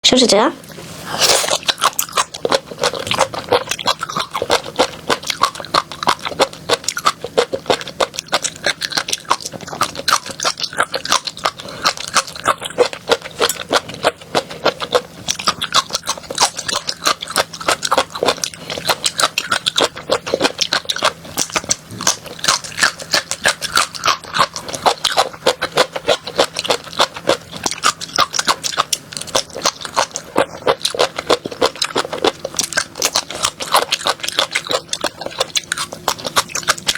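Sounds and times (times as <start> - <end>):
person chewing crunchy food: 0.6 - 36.9.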